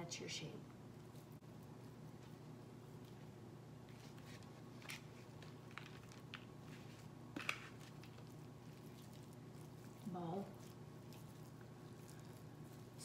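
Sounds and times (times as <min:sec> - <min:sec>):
low room hum: 0:00.0 - 0:13.0
hands squeezing raw ground meat: 0:00.8 - 0:13.0.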